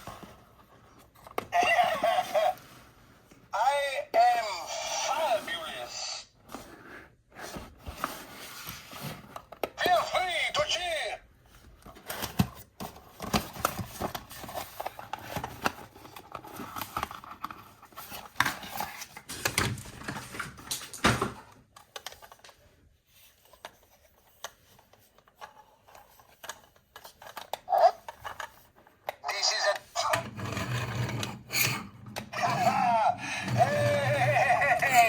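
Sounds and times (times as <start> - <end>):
plastic toys and packaging handled: 0.0 - 35.0.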